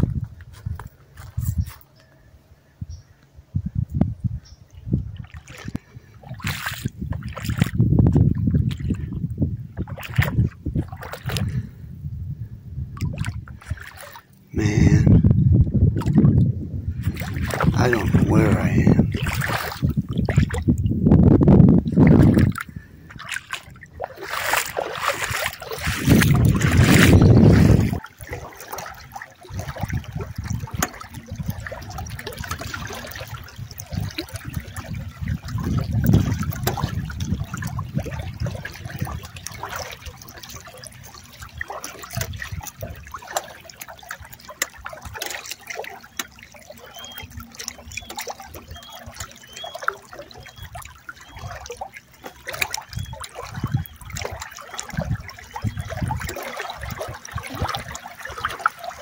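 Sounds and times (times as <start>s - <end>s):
wind rumble on microphone: 0.0s - 1.8s, 2.6s - 43.4s, 52.5s - 58.7s
water lapping against canoe hull: 0.0s - 2.3s, 4.0s - 59.0s.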